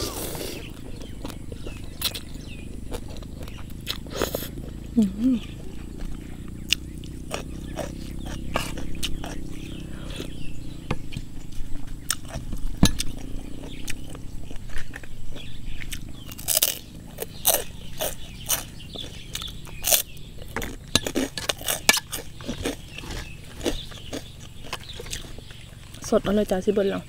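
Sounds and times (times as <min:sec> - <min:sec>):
crunchy chewing: 0:00.0 - 0:26.6.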